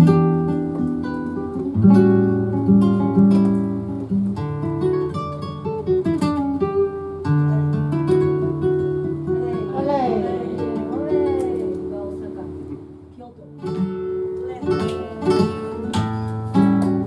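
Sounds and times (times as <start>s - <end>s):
flamenco guitar strumming chords: 0.0s - 17.0s.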